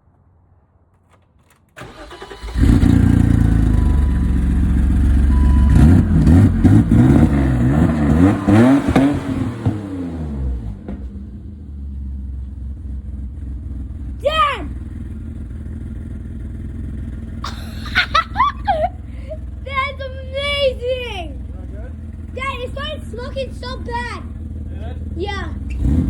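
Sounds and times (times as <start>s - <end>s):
car engine starting and revving: 1.8s - 26.0s.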